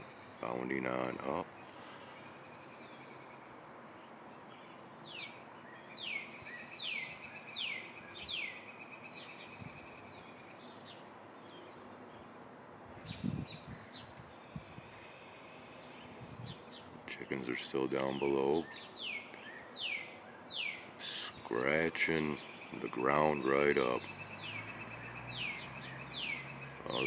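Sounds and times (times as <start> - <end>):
thin steady bird trill: 0.0 - 27.0.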